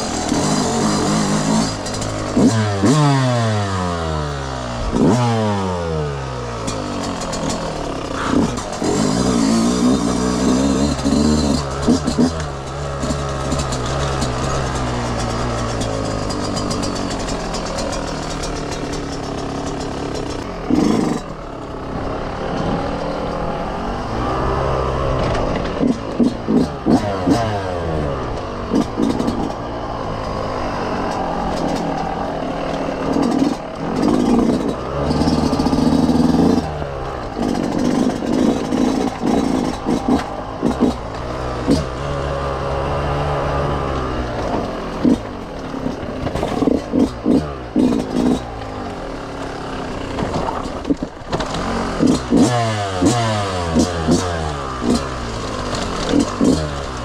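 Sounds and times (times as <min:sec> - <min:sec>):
bike clattering over rough ground: 0:00.0 - 0:05.4, 0:06.1 - 0:57.0
dirt bike engine revving: 0:00.0 - 0:57.0.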